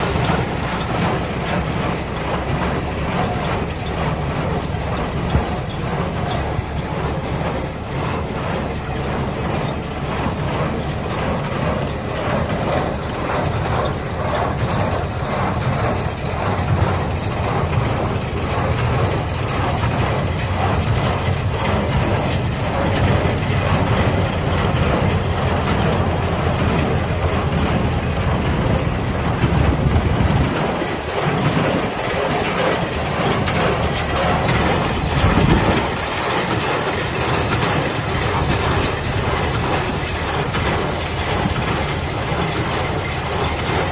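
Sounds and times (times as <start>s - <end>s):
hay baler mechanical clatter: 0.0s - 43.9s
low engine drone: 0.0s - 43.9s.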